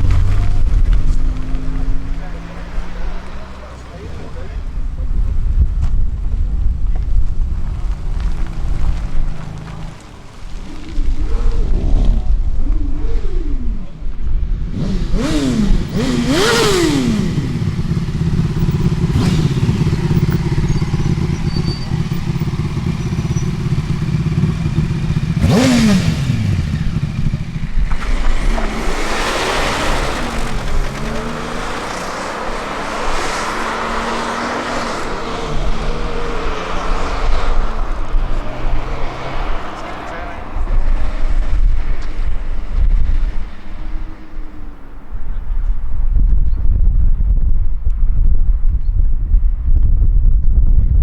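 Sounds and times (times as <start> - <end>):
vehicle passing close: 0.0 - 5.9, 7.2 - 45.9
engines revving: 0.0 - 45.9
steady engine rumble: 0.0 - 51.0.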